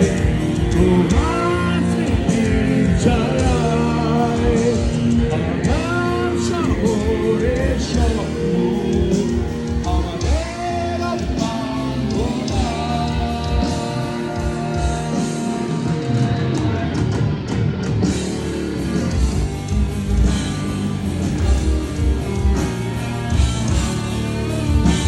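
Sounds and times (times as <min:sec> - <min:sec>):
bending guitar melody: 0:00.0 - 0:25.0
rock band playing live: 0:00.0 - 0:25.0.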